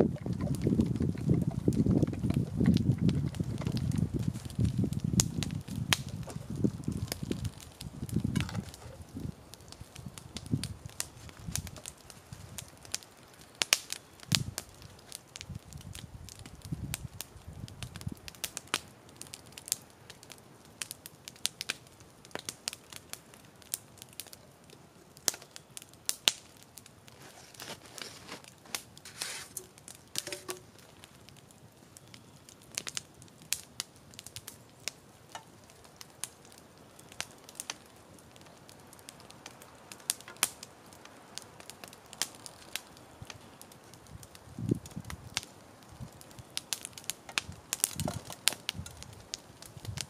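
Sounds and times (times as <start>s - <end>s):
campfire crackling: 0.0s - 50.0s
sharp pops of fire: 0.0s - 50.0s.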